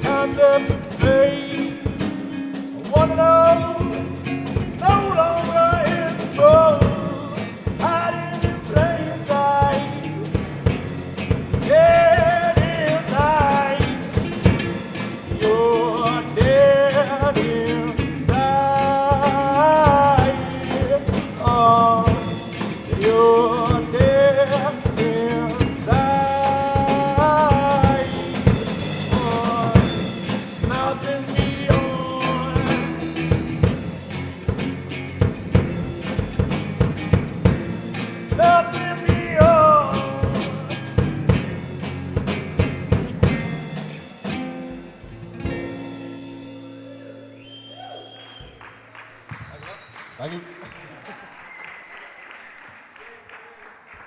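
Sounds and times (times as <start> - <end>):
rock band playing: 0.0 - 47.9
drum kit beat: 0.0 - 48.6.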